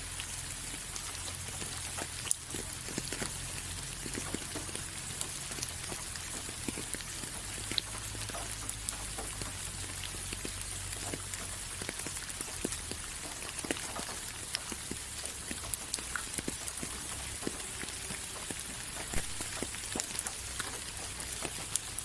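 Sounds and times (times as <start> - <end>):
rain falling: 0.0 - 22.0
raindrops ticking on a surface: 0.0 - 22.0.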